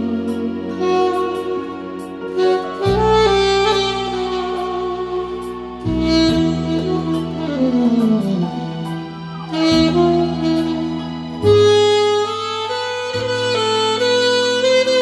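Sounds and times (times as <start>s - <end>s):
alto saxophone ballad melody: 0.0s - 15.0s
backing track music: 0.0s - 15.0s.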